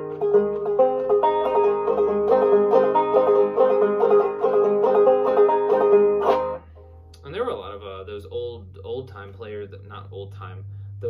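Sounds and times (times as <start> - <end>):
banjo picking: 0.0 - 9.6.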